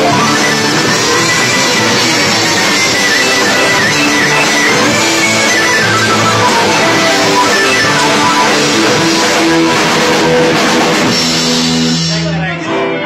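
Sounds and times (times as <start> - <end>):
electric guitar: 0.0 - 13.0
rock band playing: 0.0 - 13.0.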